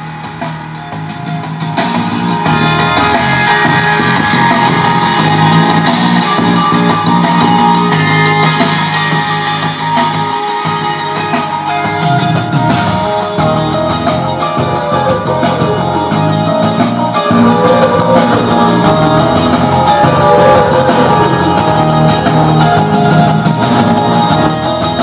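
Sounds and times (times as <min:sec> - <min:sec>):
rock music with guitar and drums: 0:00.0 - 0:25.0.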